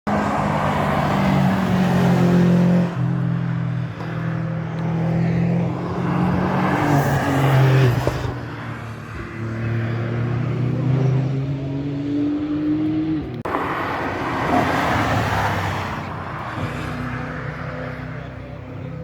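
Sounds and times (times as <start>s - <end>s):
racing car engine at full throttle: 0.0s - 19.0s.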